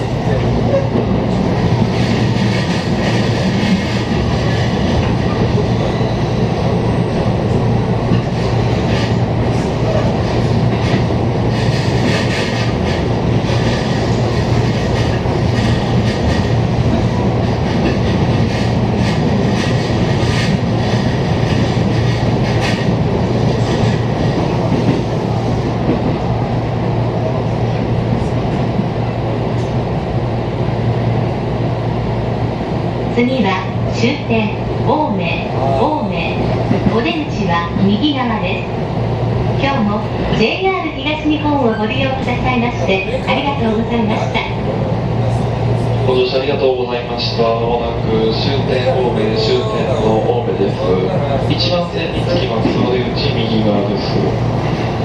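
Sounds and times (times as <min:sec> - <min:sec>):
train wheels and motors rumbling: 0:00.0 - 0:55.0.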